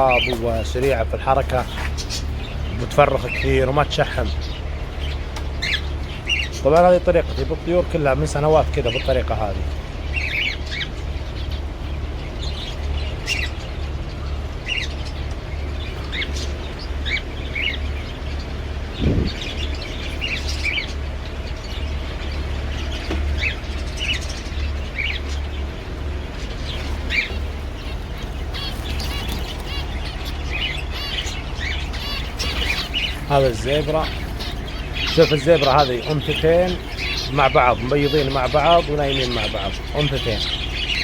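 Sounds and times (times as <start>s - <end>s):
small birds chirping: 0.0s - 41.0s
steady low hum: 0.0s - 41.0s.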